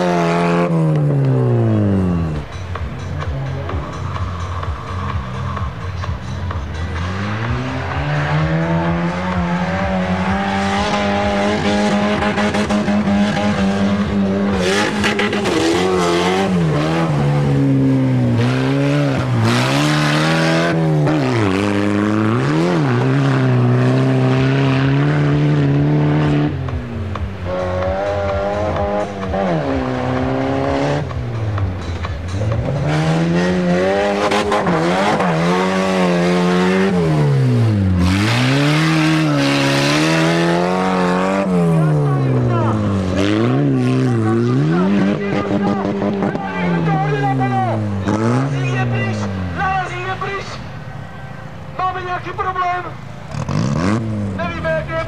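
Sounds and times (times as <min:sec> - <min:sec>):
race vehicle engine revving: 0:00.0 - 0:50.8, 0:51.7 - 0:55.0.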